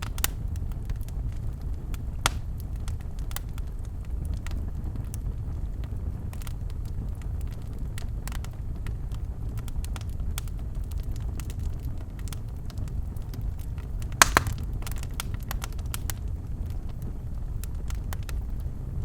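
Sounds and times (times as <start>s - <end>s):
fire burning in a fireplace: 0.0s - 19.0s
fire crackling and popping: 0.0s - 19.0s.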